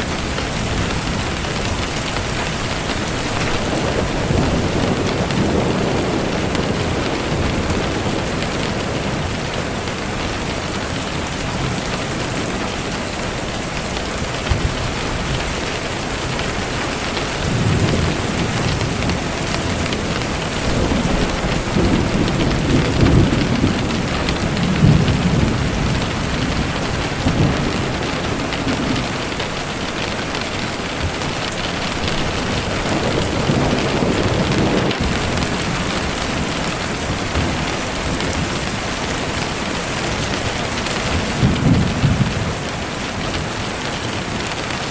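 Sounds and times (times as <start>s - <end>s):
steady rain falling: 0.0s - 44.9s
thunder rumbling: 0.0s - 44.9s.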